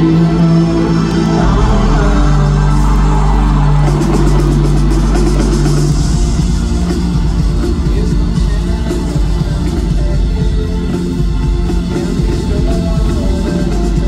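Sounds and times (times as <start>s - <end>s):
bass notes: 0.0s - 14.0s
live rock band playing: 0.0s - 14.0s
steady cymbal beat: 0.0s - 14.0s.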